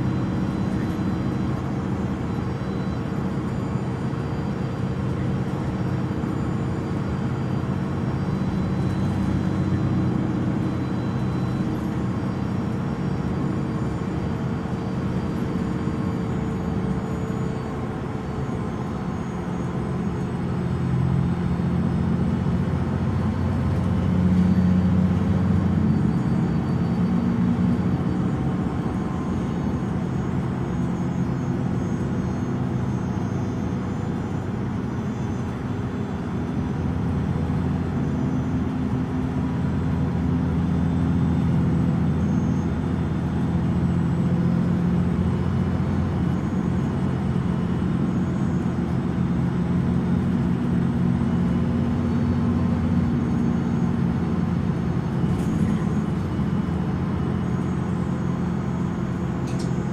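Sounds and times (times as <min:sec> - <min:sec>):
diesel bus idling: 0:00.0 - 0:59.9.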